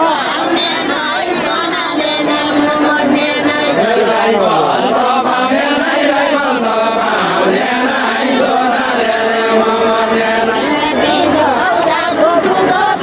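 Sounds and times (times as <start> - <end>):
group of voices chanting: 0.0 - 13.0.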